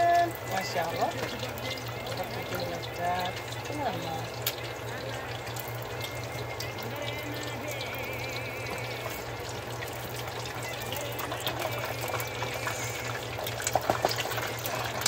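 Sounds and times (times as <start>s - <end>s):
food deep-frying in oil: 0.0s - 15.0s
oil popping: 0.0s - 15.0s.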